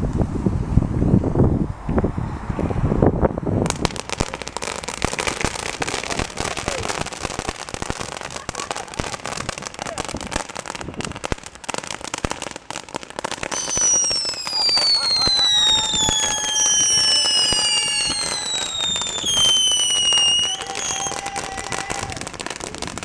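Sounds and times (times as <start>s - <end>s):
fireworks crackling: 2.7s - 23.0s.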